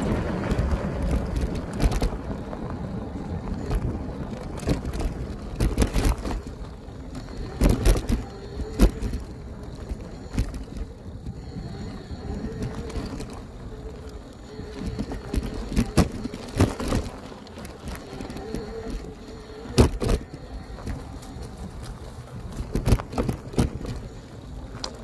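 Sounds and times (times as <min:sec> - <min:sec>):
bike knocks and rattles: 0:00.0 - 0:25.0
wind on microphone: 0:00.0 - 0:25.0.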